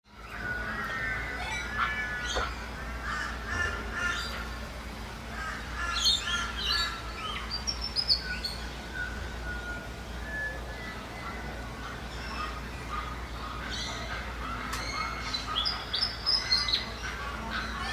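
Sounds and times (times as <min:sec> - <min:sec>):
birds calling and chirping: 0:00.1 - 0:17.9.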